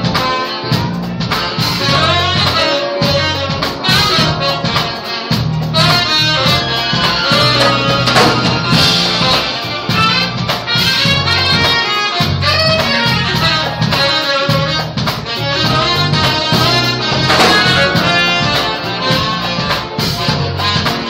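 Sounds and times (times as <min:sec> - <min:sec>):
bass line: 0:00.0 - 0:21.0
drums: 0:00.0 - 0:21.0
keyboard: 0:00.0 - 0:21.0
saxophone melody: 0:00.0 - 0:21.0.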